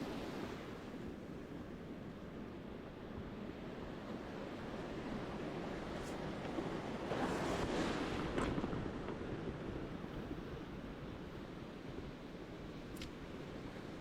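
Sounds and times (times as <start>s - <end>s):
ocean waves breaking on beach: 0.0s - 14.0s.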